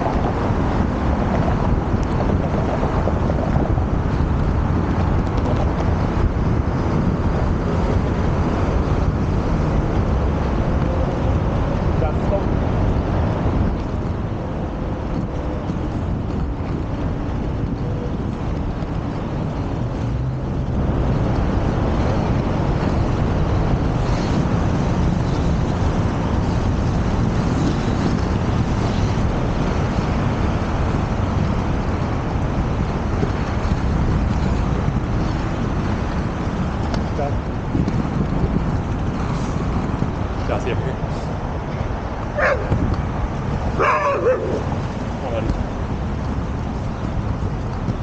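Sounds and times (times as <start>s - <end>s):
road traffic: 0.0s - 48.0s
wind rumbling on microphone: 0.0s - 48.0s.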